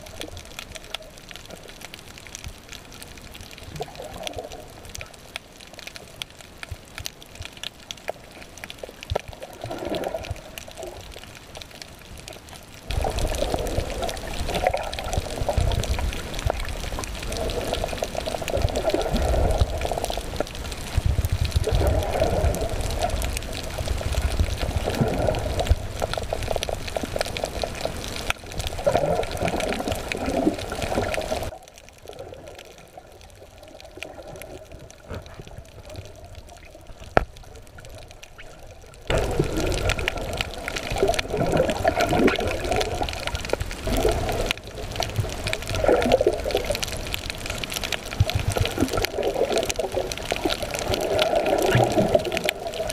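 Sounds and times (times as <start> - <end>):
water sloshing and gurgling: 0.0 - 52.9.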